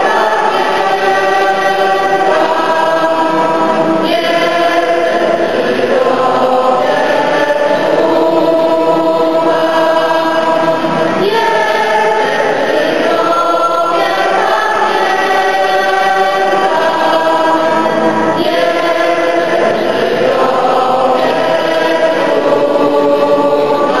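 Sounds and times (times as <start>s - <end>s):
group singing a hymn: 0.0s - 24.0s.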